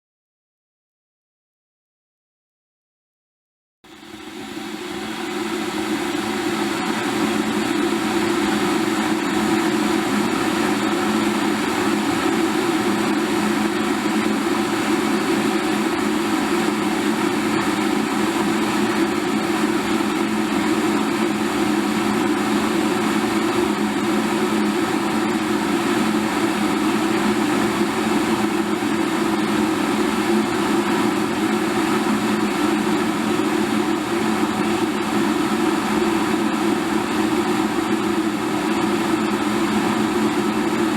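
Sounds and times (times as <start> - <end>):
kettle boiling water: 3.9 - 40.9.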